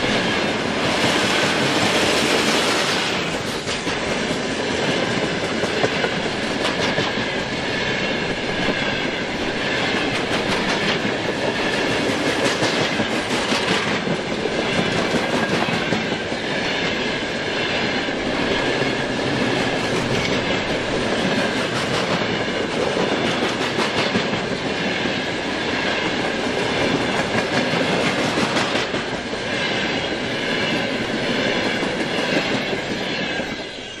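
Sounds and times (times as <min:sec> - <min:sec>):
train wheels clattering over rail joints: 0:00.0 - 0:33.1.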